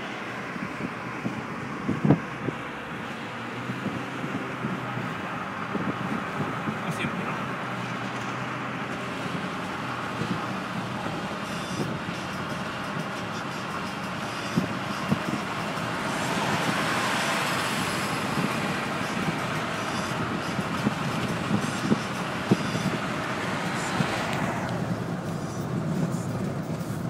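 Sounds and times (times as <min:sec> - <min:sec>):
road and tyre noise in car: 0:00.0 - 0:27.0.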